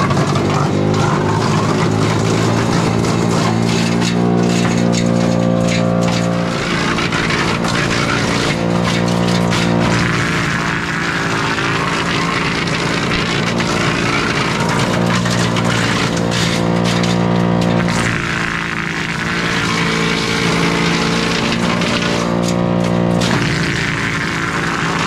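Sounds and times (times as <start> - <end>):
tractor engine running: 0.0 - 25.0
wood chipper chipping: 0.0 - 25.0.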